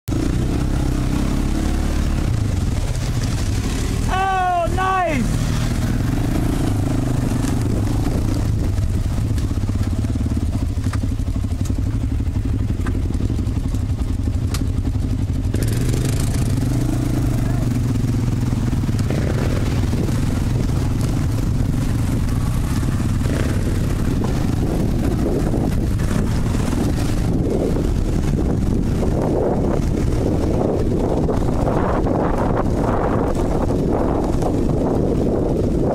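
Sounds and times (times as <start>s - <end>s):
off-road vehicle engine running: 0.0s - 35.9s.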